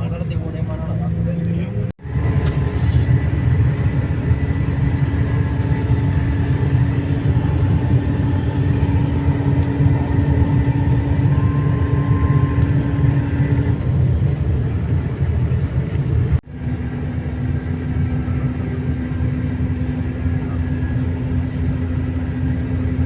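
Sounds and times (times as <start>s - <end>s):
bus engine and road rumble: 0.0s - 23.0s.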